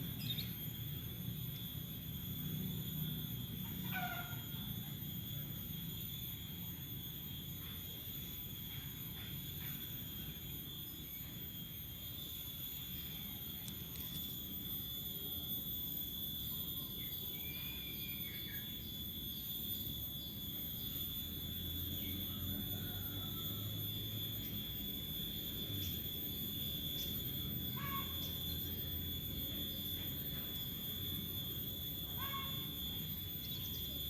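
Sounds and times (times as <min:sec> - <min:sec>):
faint chirps: 0:00.0 - 0:34.0
insects droning: 0:00.0 - 0:34.0.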